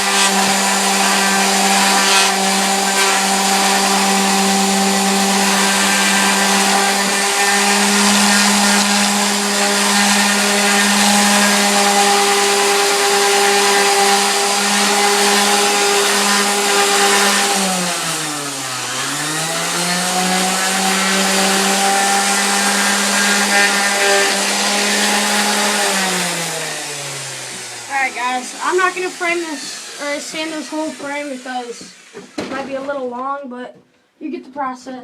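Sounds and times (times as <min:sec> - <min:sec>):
electric power sander: 0:00.0 - 0:32.9.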